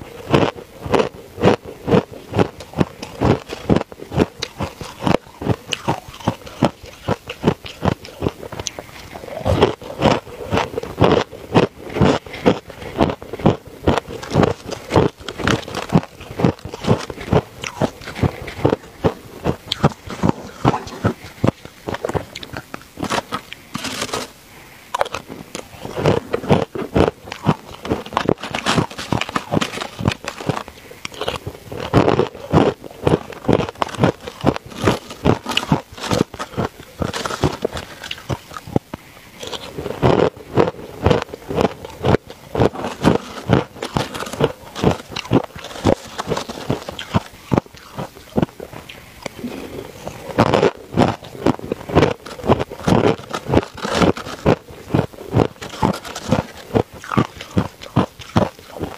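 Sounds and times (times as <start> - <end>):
person crunching ice: 0.1 - 58.9.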